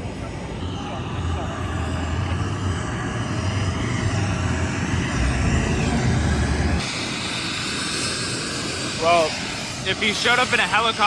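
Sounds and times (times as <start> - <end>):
helicopter rotor rumble: 0.0 - 11.0.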